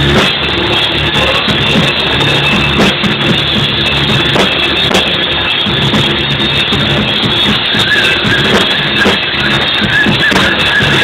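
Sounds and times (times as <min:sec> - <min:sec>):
live rock band playing: 0:00.0 - 0:11.0
upright bass notes: 0:00.0 - 0:11.0.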